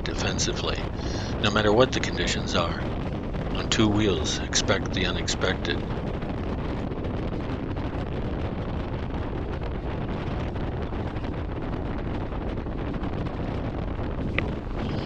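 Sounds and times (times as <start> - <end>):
wind buffeting microphone: 0.0 - 12.8, 14.2 - 15.0.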